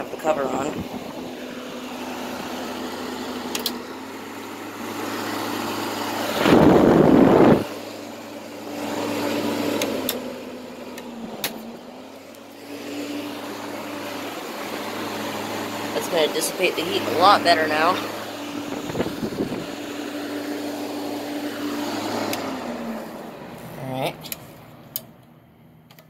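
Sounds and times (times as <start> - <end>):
air conditioner fan running: 0.0 - 26.0.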